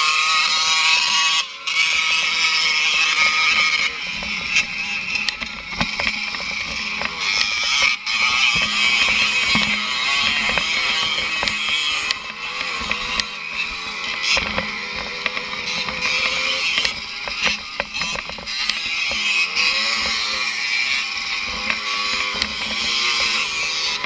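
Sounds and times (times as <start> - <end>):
two-stroke motorbike engine: 0.0 - 24.0
bike clattering over bumps: 3.2 - 24.0.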